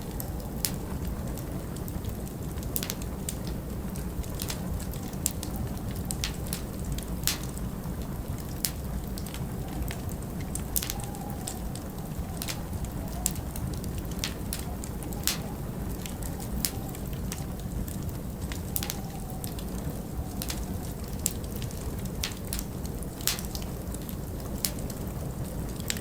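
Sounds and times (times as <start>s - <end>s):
log fire crackling and popping: 0.0s - 26.0s
low rumble of wind: 0.0s - 26.0s.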